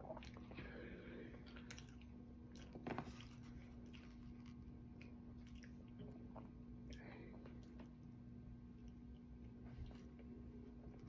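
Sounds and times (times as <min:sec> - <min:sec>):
chewing bread: 0:00.0 - 0:11.0
faint steady hum: 0:00.0 - 0:11.0.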